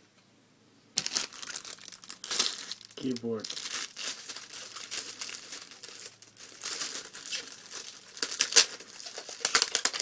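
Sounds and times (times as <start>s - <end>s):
packaging crinkling and rustling: 1.0s - 10.0s.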